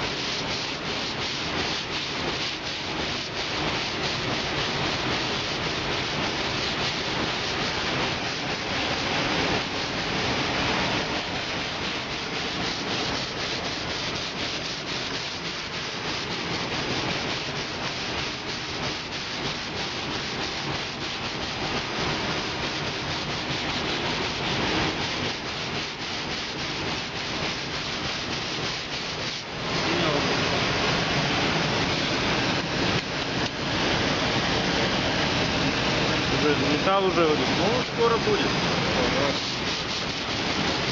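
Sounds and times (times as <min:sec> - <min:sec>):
sanding metal: 0:00.0 - 0:40.9.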